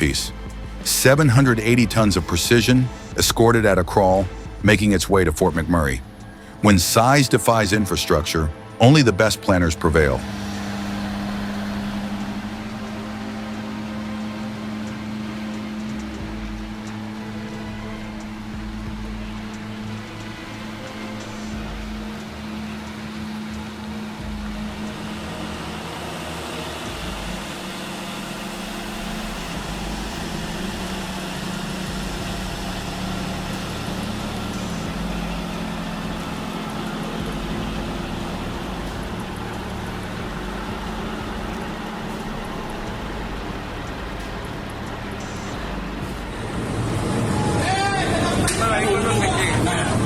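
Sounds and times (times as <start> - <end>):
constant low hum: 0.0 - 50.0
road traffic: 0.0 - 50.0
vehicle engines running: 0.0 - 50.0.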